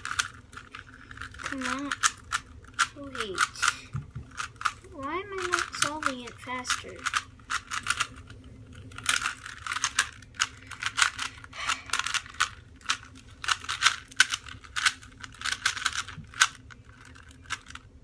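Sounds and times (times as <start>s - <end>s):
plastic puzzle cube clicking: 0.0s - 4.8s, 5.4s - 8.3s, 8.9s - 17.8s.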